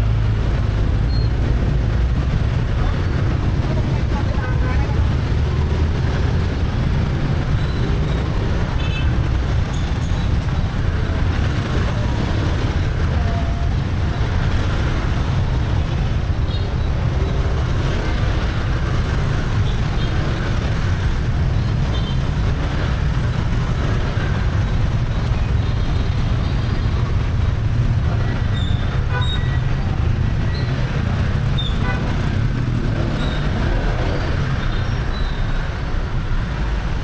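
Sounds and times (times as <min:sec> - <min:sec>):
busy street traffic rumble: 0:00.0 - 0:37.0
motorbike engine and road noise: 0:00.0 - 0:37.0.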